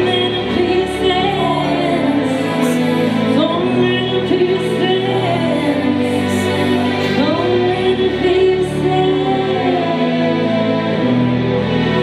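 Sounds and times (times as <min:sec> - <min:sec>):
woman singing into microphone: 0:00.0 - 0:11.1.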